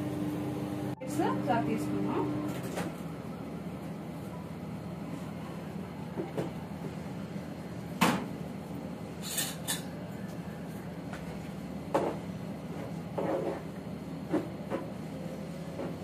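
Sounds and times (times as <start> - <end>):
microwave hum: 0.0 - 16.0.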